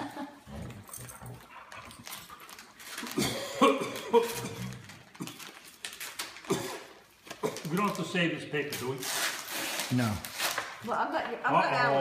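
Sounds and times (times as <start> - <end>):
gift-wrap paper rustling: 1.4 - 12.0.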